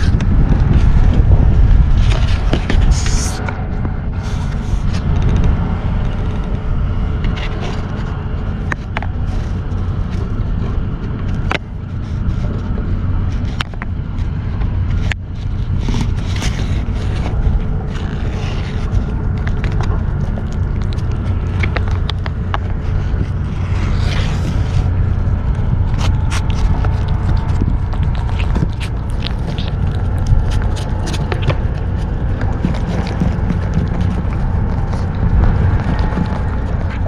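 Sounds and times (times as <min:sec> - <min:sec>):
steady low rumble: 0:00.0 - 0:37.0.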